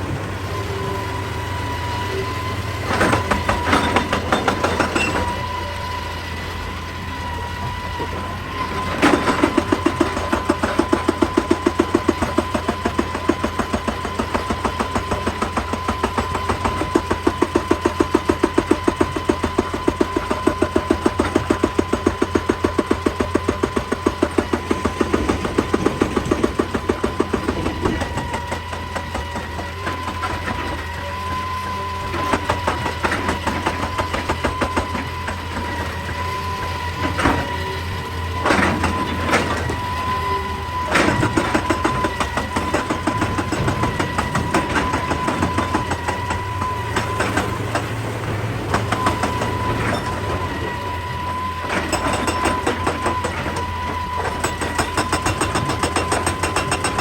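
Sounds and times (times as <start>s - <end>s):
excavator engine running: 0.0s - 57.0s
hydraulic rock breaker hammering: 0.1s - 57.0s.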